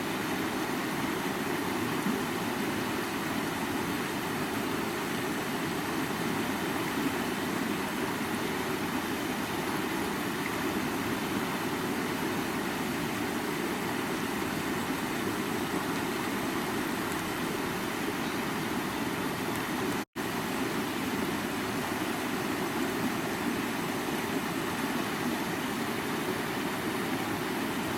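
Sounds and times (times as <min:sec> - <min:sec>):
river water flowing: 0:00.0 - 0:27.9.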